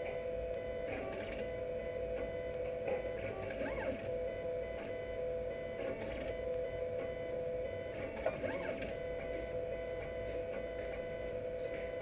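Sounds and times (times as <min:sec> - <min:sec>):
three d printer motors whining: 0:00.0 - 0:12.0.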